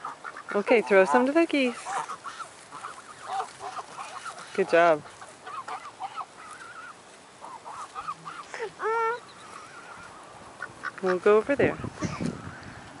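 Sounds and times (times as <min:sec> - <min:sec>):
geese honking: 0:00.0 - 0:12.6.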